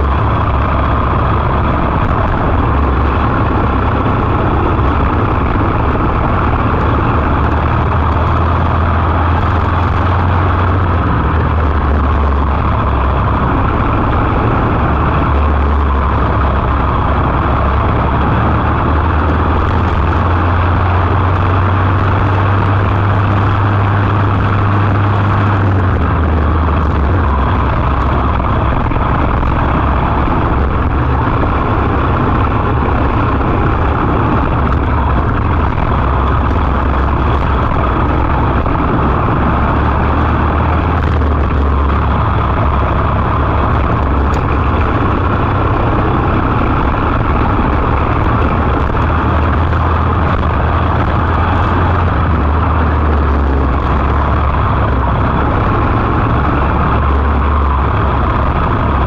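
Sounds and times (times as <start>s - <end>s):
kart engine running: 0.0s - 59.0s.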